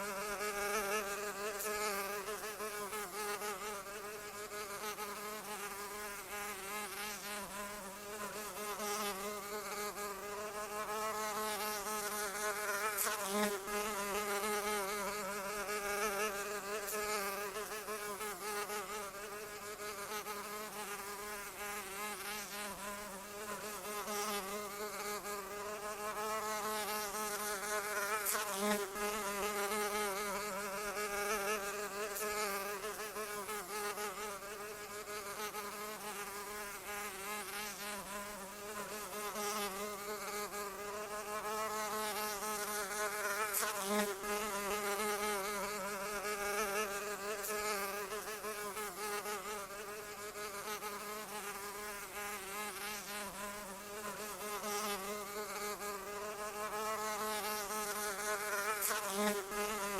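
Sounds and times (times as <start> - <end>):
fly buzzing: 0.0 - 59.9.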